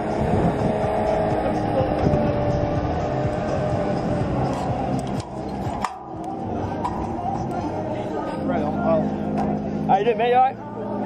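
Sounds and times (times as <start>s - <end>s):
crane engine running with whine: 0.0s - 9.9s.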